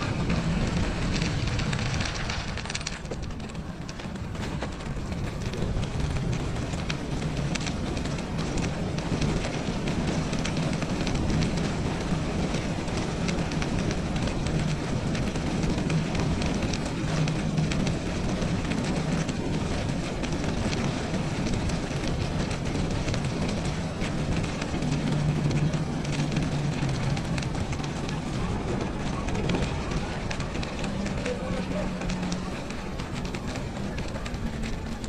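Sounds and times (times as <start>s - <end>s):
bicycle tyre rumble: 0.0s - 35.0s
small crackles and clicks: 0.0s - 35.0s.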